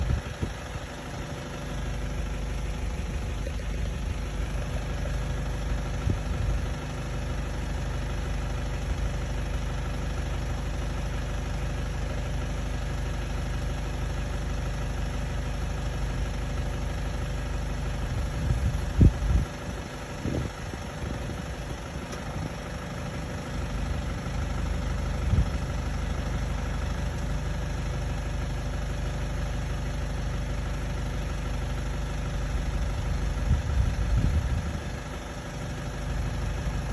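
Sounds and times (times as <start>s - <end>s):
vehicle engine idling: 0.0s - 36.9s.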